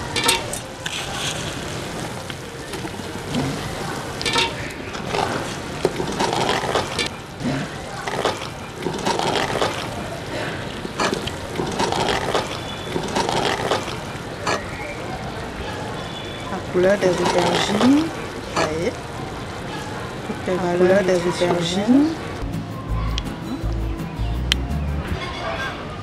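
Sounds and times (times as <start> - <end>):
thick stew bubbling in a pot: 0.0 - 23.0.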